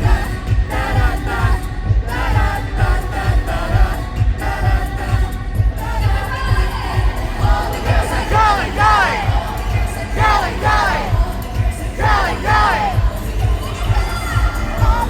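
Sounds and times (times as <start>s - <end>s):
heavy bass beat: 0.0s - 15.0s
high female vocals: 0.0s - 15.0s
pop song over loudspeakers: 0.0s - 15.0s.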